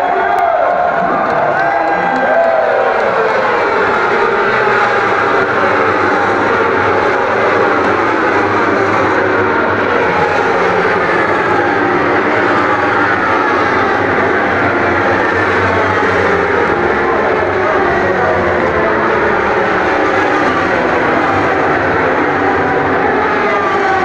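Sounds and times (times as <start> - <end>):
racing motorcycles passing: 1.0 - 24.0.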